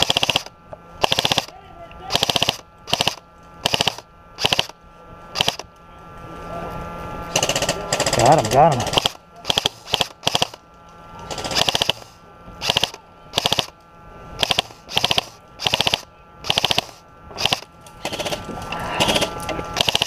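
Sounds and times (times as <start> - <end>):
airsoft rifle firing bursts: 0.0 - 5.7, 7.3 - 10.6, 11.3 - 13.8, 14.4 - 20.0
faint steady whine: 0.0 - 20.0.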